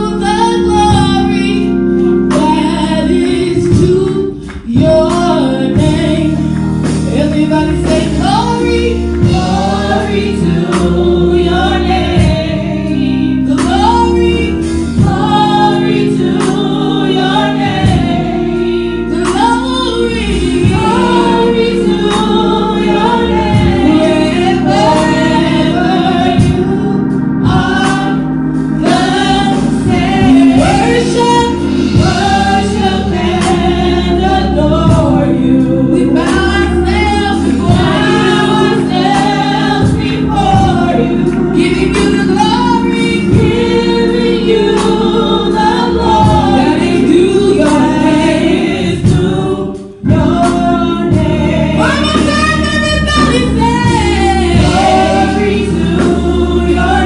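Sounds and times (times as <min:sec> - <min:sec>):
band accompaniment: 0:00.0 - 0:57.0
gospel choir singing: 0:00.0 - 0:57.0.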